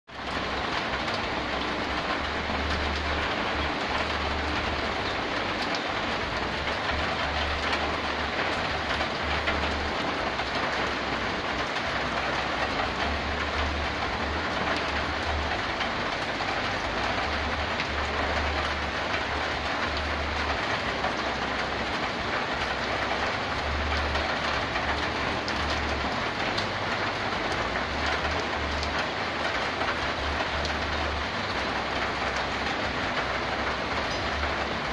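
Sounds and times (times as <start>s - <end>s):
rain dripping on a metal roof: 0.1s - 34.9s.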